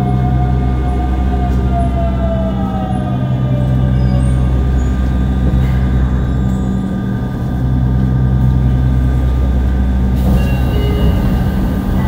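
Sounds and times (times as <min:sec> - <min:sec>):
train inverter whine: 0:00.0 - 0:12.0.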